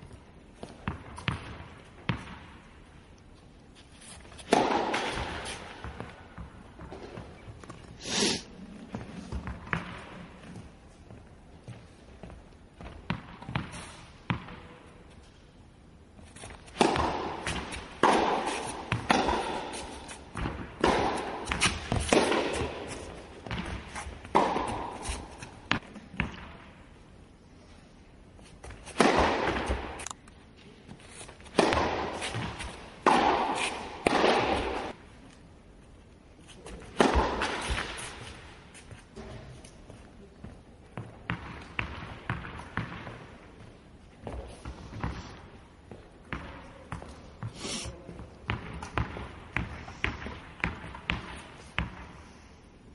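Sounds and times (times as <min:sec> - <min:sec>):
rackets hitting tennis balls: 0:00.0 - 0:08.0, 0:08.6 - 0:15.4, 0:16.1 - 0:27.1, 0:28.2 - 0:52.5.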